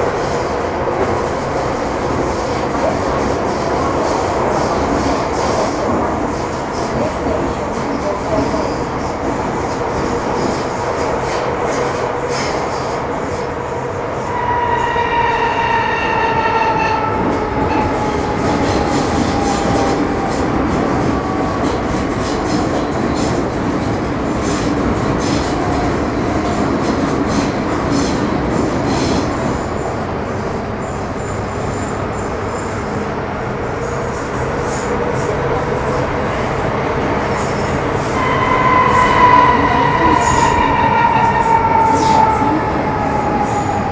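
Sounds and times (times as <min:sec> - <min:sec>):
train wheel and track rumble: 0:00.0 - 0:43.9.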